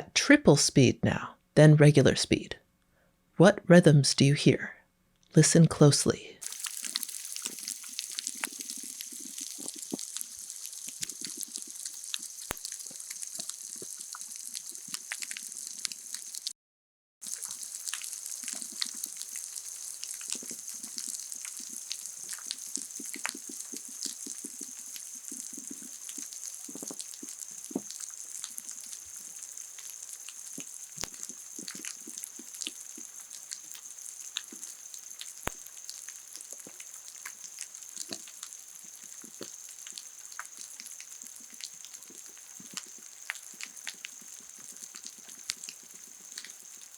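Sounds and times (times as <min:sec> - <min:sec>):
crackle of reef clicks: 0:06.4 - 0:16.6, 0:17.2 - 0:46.9.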